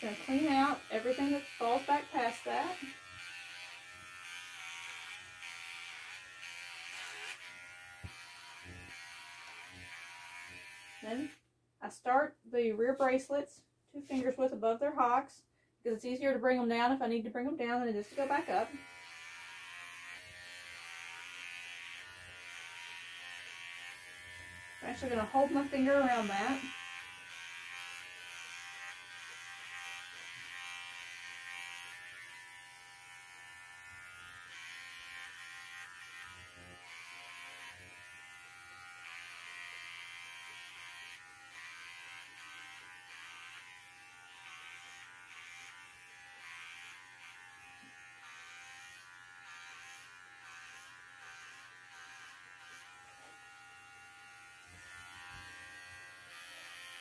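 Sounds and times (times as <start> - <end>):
electric clipper humming: 0.0 - 11.4, 17.9 - 57.0.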